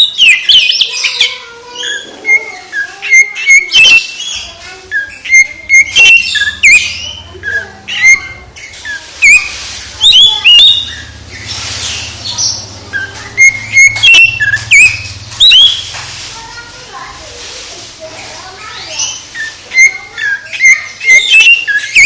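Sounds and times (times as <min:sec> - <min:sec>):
magpie-robin singing: 0:00.0 - 0:16.0, 0:18.2 - 0:22.0.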